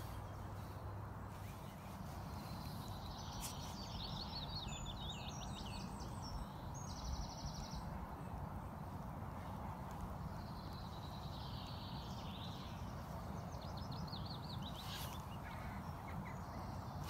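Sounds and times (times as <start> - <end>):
songbird singing with trill: 1.3 - 17.0.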